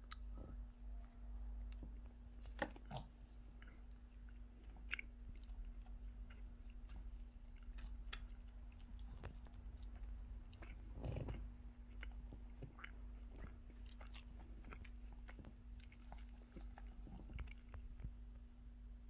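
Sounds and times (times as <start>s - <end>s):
low steady hum: 0.0s - 19.0s
person chewing crunchy cookie: 1.5s - 18.3s.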